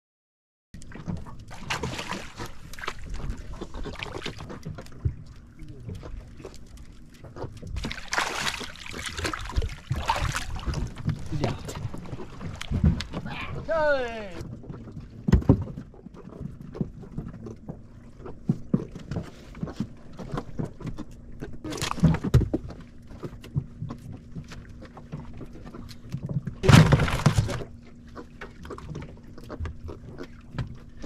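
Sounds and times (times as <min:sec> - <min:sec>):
steady low hum: 0:00.8 - 0:31.0
knocks and thuds of fish: 0:00.9 - 0:05.2, 0:07.2 - 0:27.8.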